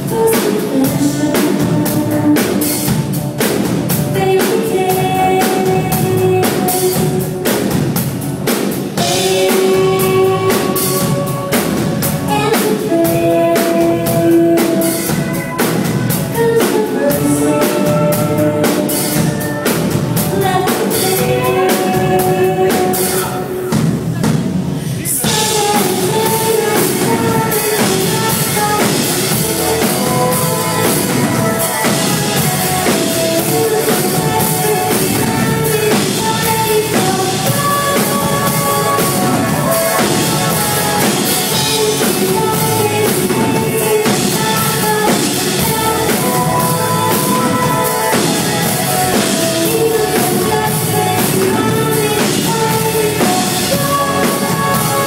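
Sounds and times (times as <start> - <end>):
woman singing into a microphone: 0.0 - 7.7, 8.9 - 23.8, 24.8 - 55.0
drum kit beat: 0.0 - 55.0
live band playing pop-rock: 0.0 - 55.0.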